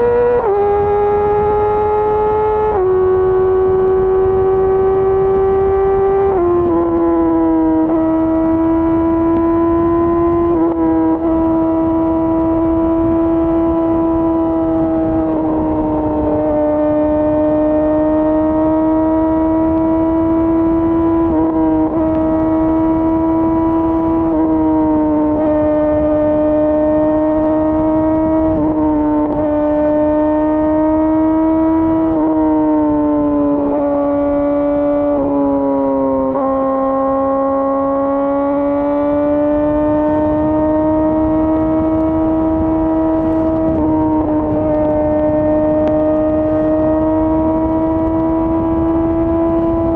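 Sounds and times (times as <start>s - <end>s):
motorcycle engine at high revs: 0.0s - 49.9s
wind rushing over microphone: 0.0s - 49.9s.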